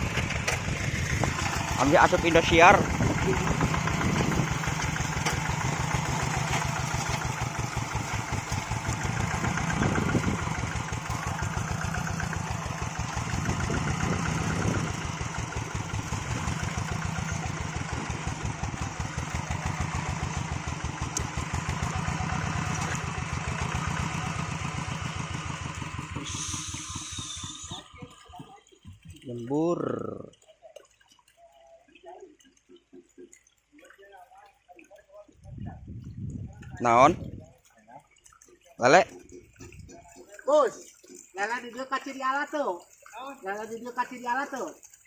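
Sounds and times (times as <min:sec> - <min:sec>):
hand tractor engine chugging: 0:00.0 - 0:33.7, 0:35.3 - 0:45.0.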